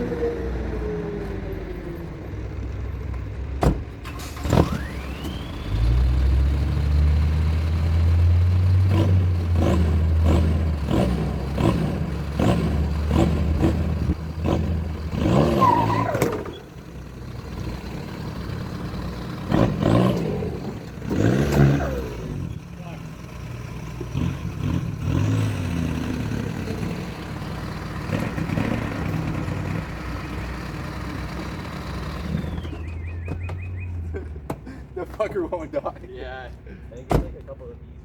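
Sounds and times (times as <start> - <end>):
truck engine running under load: 0.0 - 35.0.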